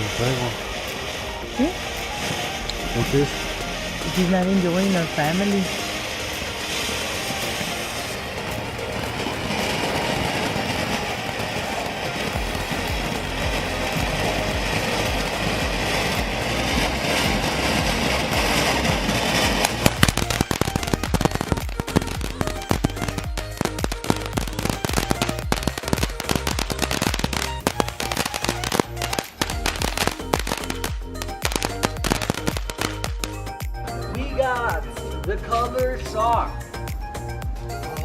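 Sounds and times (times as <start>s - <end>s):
firework crackling pops: 0.0s - 38.0s
firework spraying hiss: 0.0s - 38.0s.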